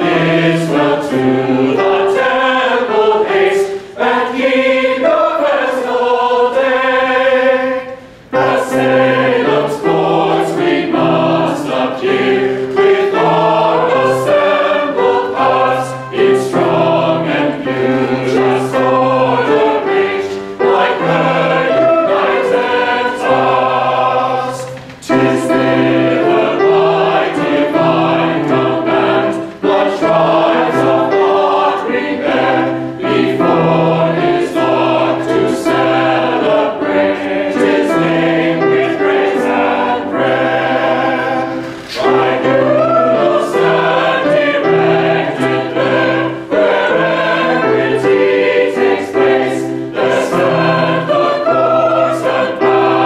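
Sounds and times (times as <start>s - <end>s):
mixed choir singing a hymn: 0.0s - 53.0s.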